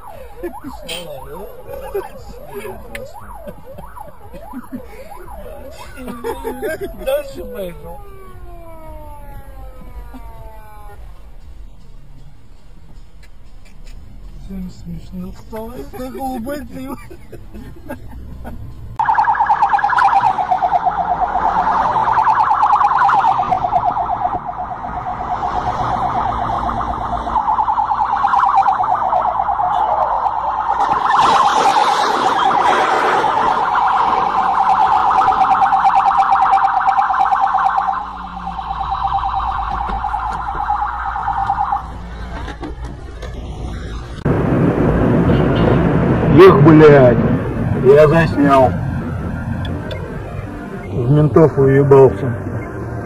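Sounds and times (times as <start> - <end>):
police siren wailing: 0.0 - 11.5, 19.0 - 53.0.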